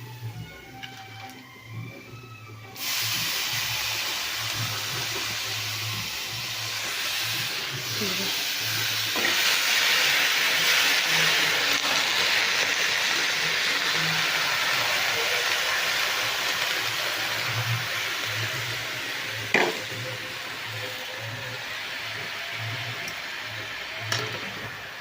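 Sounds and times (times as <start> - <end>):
greens sizzling in hot oil: 2.8 - 25.0.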